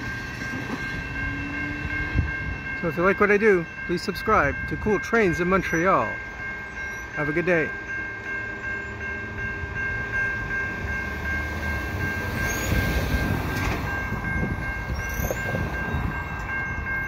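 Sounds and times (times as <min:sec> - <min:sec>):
freight train rumble: 0:00.0 - 0:17.0
level crossing warning bell: 0:00.0 - 0:17.0.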